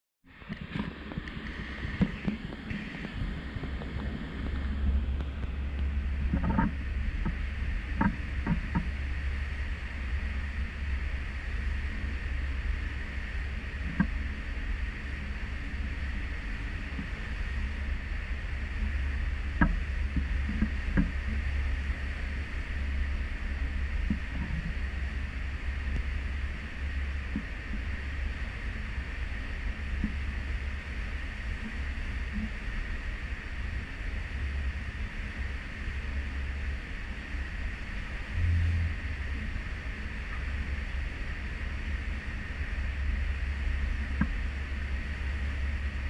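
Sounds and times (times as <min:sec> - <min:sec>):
ship noise rumble: 0:00.3 - 0:46.0
wind on microphone: 0:00.4 - 0:33.0, 0:34.2 - 0:46.0.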